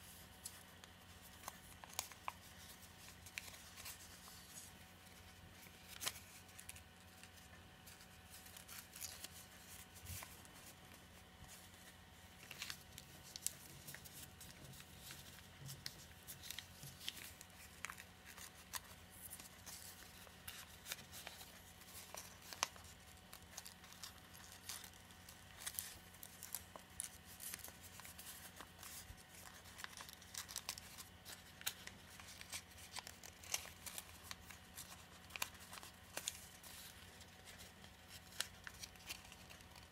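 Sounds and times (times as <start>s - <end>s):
paper crackling and rustling: 0.0s - 39.9s.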